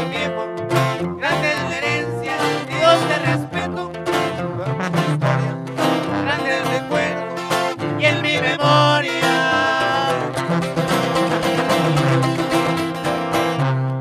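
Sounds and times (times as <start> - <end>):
acoustic guitar lead runs: 0.0 - 14.0
strummed twelve-string guitar: 0.0 - 14.0
tuba bass line: 0.0 - 14.0.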